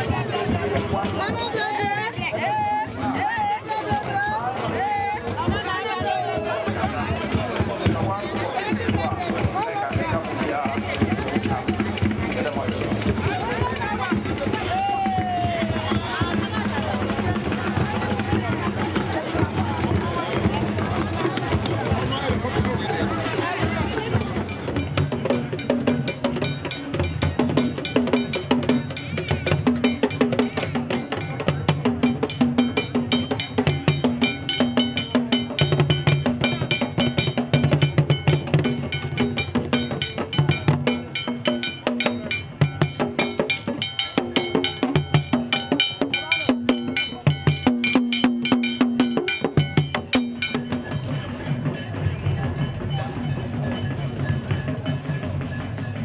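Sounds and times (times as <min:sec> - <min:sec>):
drums playing: 0:00.0 - 0:56.0.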